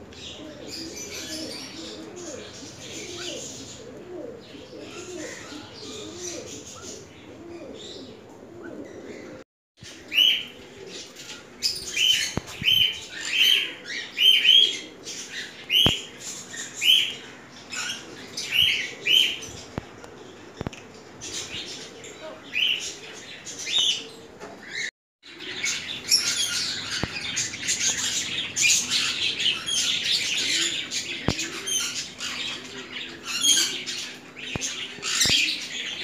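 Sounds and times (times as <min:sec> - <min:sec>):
caged birds calling: 0:00.0 - 0:36.0.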